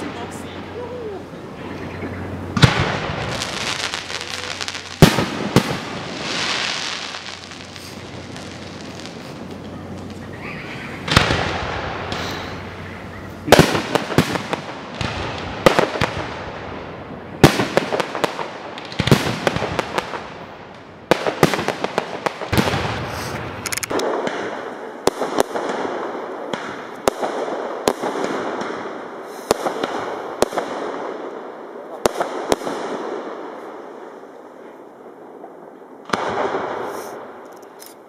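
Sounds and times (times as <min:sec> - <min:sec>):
fireworks bangs: 0:00.0 - 0:37.5
fireworks crackling: 0:00.0 - 0:38.0.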